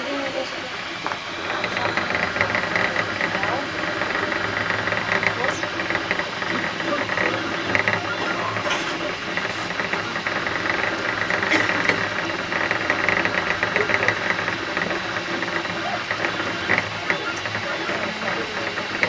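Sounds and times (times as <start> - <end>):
printer stepper motors buzzing: 0.0 - 19.0
steady hum: 0.0 - 19.0.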